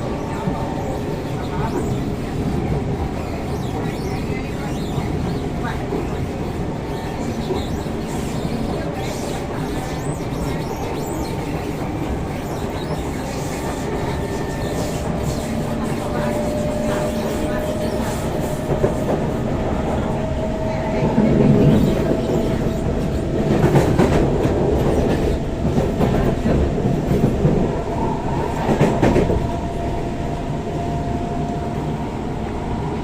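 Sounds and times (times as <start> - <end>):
train wheel and track rumble: 0.0 - 33.0.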